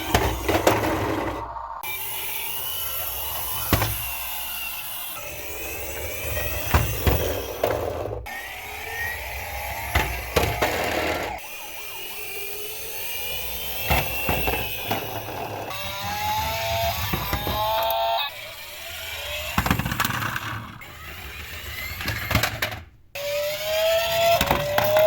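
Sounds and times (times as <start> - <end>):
toy cars rolling down a ramp: 0.0 - 25.0.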